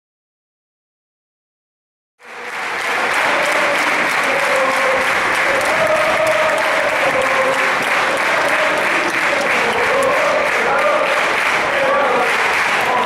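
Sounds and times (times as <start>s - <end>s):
crowd applauding: 2.2s - 13.0s
crowd cheering: 2.2s - 13.0s.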